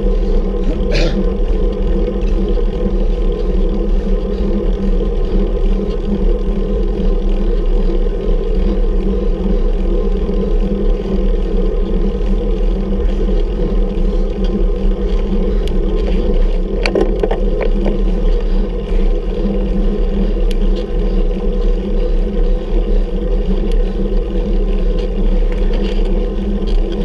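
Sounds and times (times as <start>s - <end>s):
road noise: 0.0s - 27.0s
rumbling wind noise: 0.0s - 27.0s.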